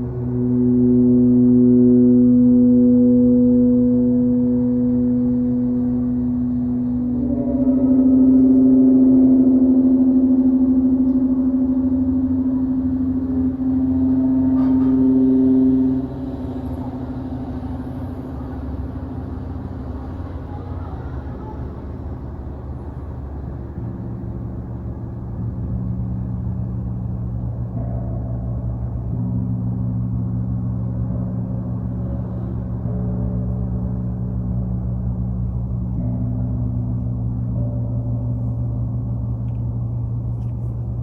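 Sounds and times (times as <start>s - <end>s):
low steady hums: 0.0s - 41.0s
sound bath instruments droning: 0.0s - 41.0s.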